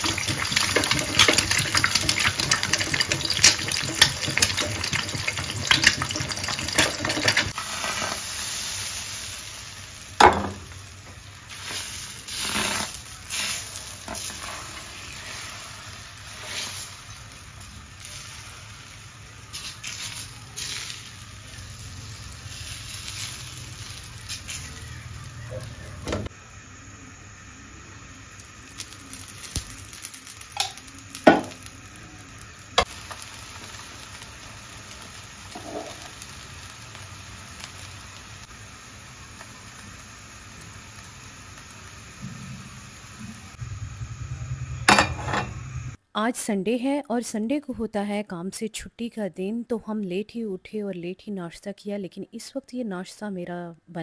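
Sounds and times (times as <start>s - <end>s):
batter sizzling on hot griddle: 0.0s - 46.0s.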